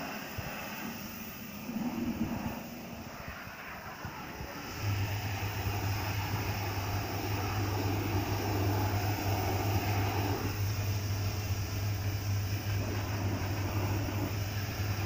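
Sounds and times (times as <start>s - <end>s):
pressure washer humming: 0.0s - 15.0s
water jet hissing on metal: 0.0s - 15.0s.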